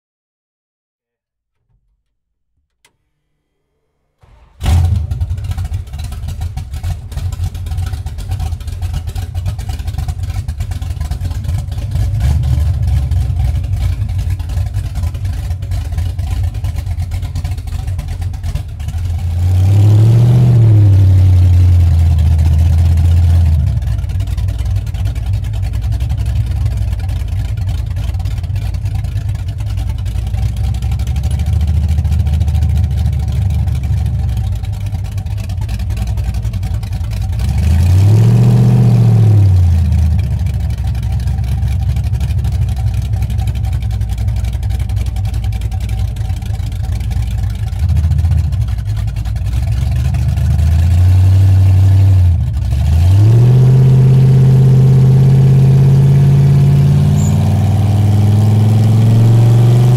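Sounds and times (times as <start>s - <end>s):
loud deep engine exhaust revving: 4.2s - 27.4s, 28.7s - 34.9s, 35.8s - 44.4s, 49.8s - 59.9s.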